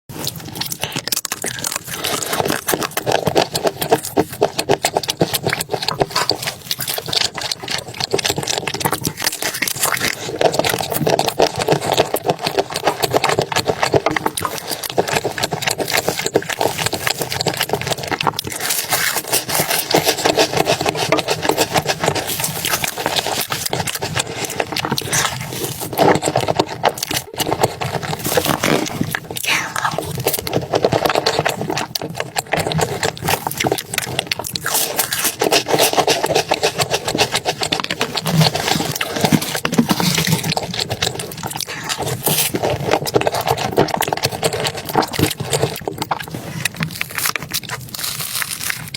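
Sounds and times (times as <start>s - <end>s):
wet chewing sounds: 0.1s - 48.9s.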